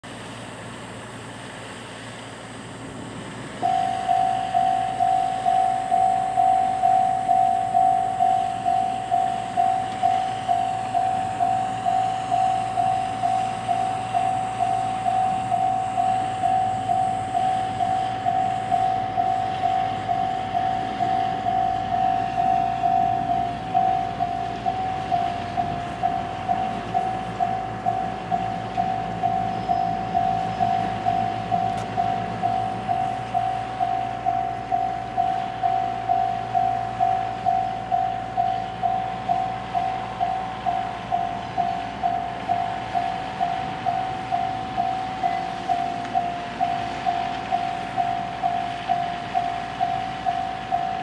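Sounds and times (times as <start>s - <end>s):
level crossing warning bell: 3.6s - 51.0s.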